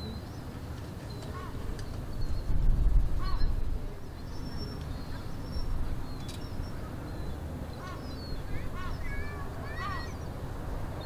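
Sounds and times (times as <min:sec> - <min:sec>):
low gusty rumble: 0:01.4 - 0:11.0.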